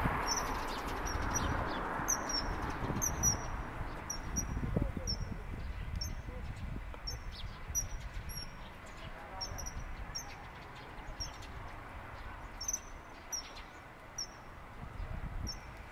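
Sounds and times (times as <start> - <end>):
bird piping calls: 0.2 - 11.6, 12.6 - 14.5, 15.4 - 15.7.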